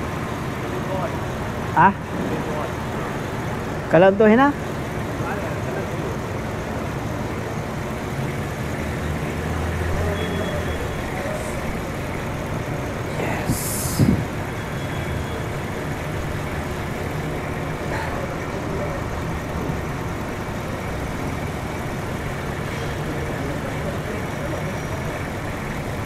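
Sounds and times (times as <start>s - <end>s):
engine idling with misfire: 0.0s - 26.0s.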